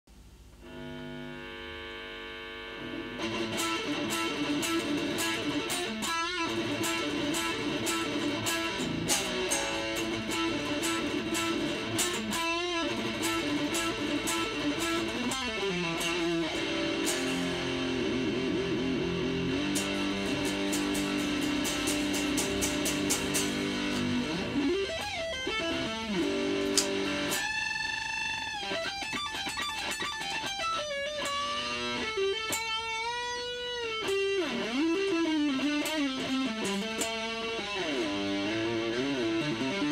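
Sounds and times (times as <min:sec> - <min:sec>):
distorted electric guitar solo: 0:00.6 - 0:39.9.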